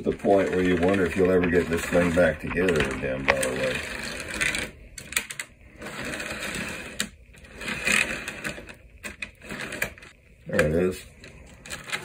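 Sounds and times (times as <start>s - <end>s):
scraping of plastic and metal parts: 0.0s - 12.0s.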